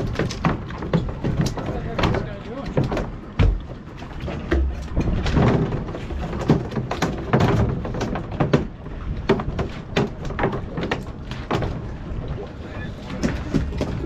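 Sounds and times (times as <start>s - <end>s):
rumble of wind and water: 0.0s - 14.0s.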